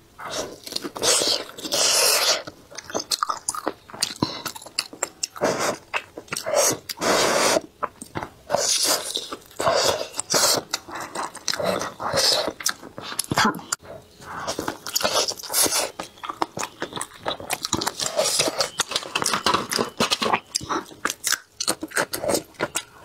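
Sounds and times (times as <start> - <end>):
chewing and biting sausage: 0.2 - 23.0.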